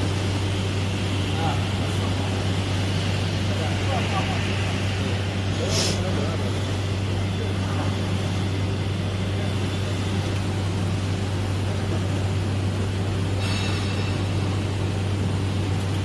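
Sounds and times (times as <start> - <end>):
high machine whine: 0.0 - 16.0
milling machine humming: 0.0 - 16.0.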